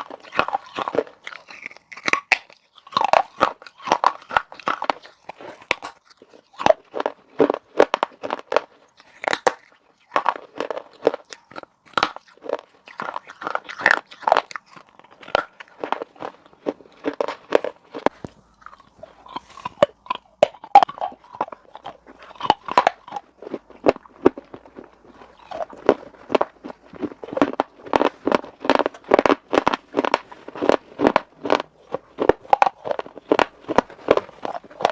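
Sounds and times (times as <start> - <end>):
person chewing crunchy clay: 0.0 - 34.9.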